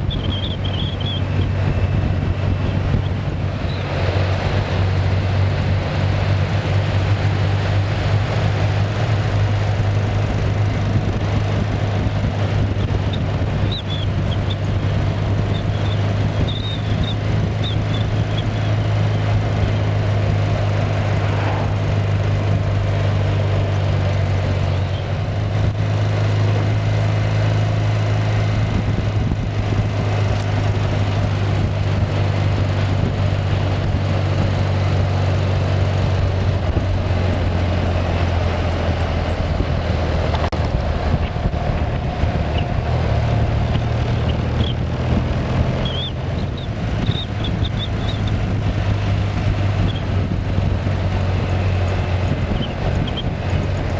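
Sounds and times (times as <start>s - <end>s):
motorcycle engine drone: 0.0s - 53.9s
wind and road noise: 0.0s - 53.9s.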